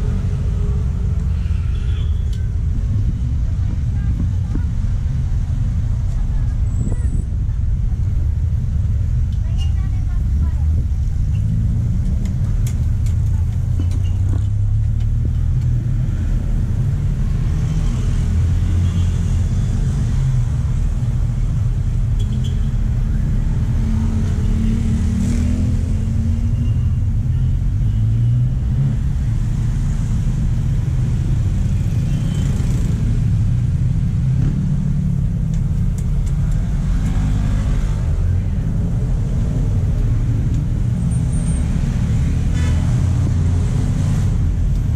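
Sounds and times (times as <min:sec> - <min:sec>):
highway traffic rumble: 0:00.0 - 0:44.9.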